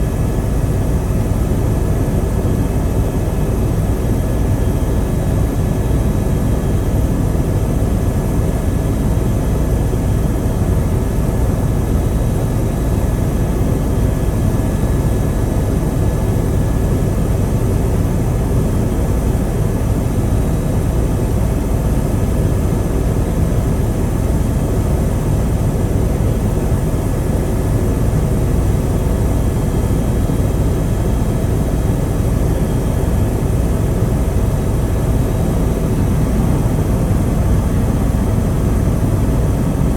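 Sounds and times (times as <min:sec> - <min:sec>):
faint steady whines: 0:00.0 - 0:39.9
helicopter engine and rotor: 0:00.0 - 0:39.9.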